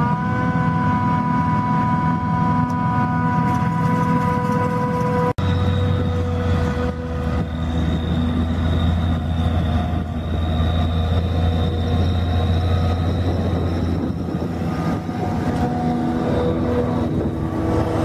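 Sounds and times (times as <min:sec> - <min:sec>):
harvester engine drone: 0:00.0 - 0:18.0.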